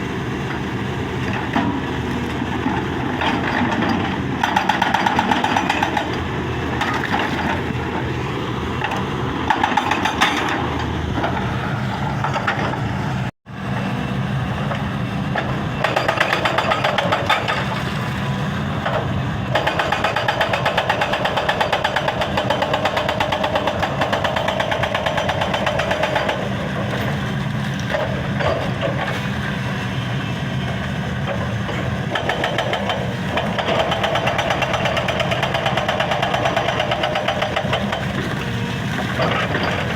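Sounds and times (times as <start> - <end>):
diesel engine running: 0.0 - 39.9
hydraulic breaker hammering rock: 1.3 - 8.1, 8.8 - 12.9, 15.4 - 17.9, 18.8 - 29.4, 31.2 - 39.9.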